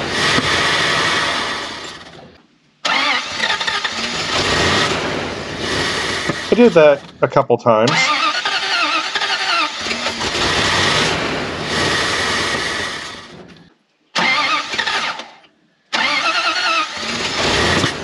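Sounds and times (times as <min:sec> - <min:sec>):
truck engine cranking on starter: 0:00.0 - 0:07.2, 0:07.9 - 0:18.0.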